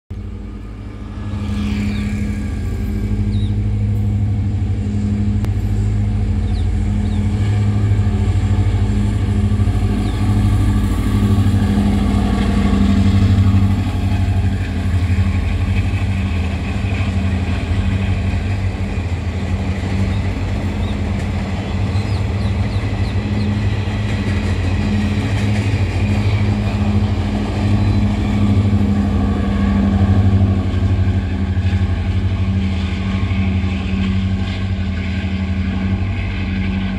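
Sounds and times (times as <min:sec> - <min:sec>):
diesel train engine humming: 0:00.1 - 0:36.9
train wheels on rails: 0:00.2 - 0:36.9.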